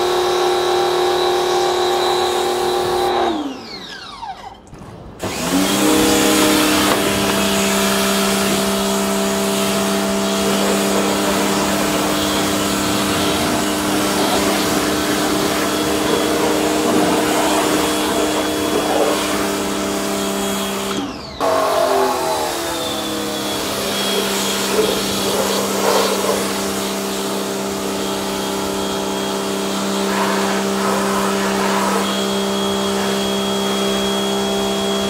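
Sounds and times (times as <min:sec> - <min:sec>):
pressure washer motor running: 0:00.0 - 0:04.4, 0:05.2 - 0:35.0
high-pressure water jet hiss: 0:05.2 - 0:35.0.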